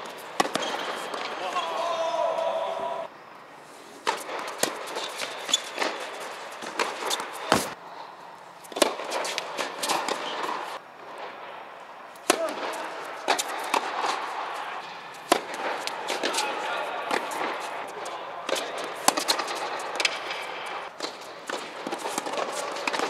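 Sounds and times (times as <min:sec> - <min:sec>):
tennis balls hit and bouncing: 0:00.0 - 0:02.8, 0:04.0 - 0:07.8, 0:08.5 - 0:23.0.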